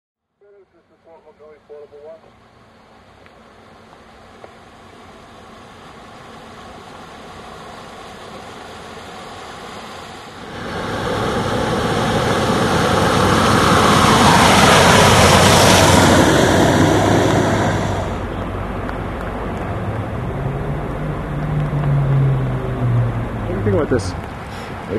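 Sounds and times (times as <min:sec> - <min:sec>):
truck engine running: 0:01.4 - 0:24.9
water rushing under truck tyres: 0:02.4 - 0:24.9.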